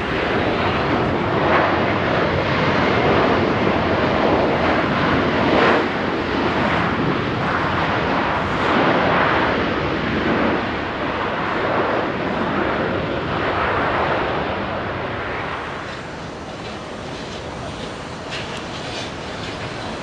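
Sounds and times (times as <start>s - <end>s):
jet airliner engines roaring: 0.0s - 20.0s.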